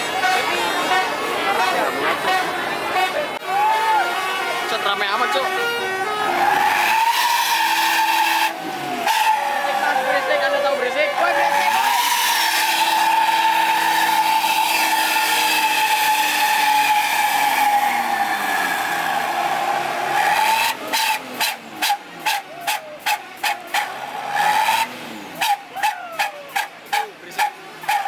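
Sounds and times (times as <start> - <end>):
multi-tone bus horns: 0.0 - 28.0.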